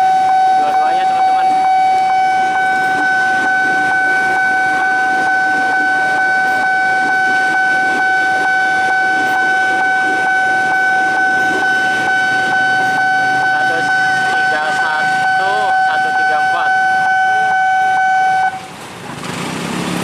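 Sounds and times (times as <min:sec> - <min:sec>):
level crossing alarm tone: 0:00.0 - 0:18.7
electric train passing: 0:00.0 - 0:19.1.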